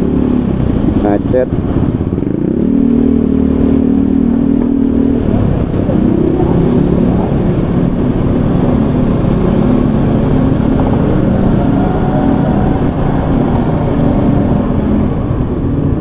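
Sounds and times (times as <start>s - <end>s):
traffic and road noise: 0.0s - 16.0s
vehicle engine hum: 0.0s - 16.0s.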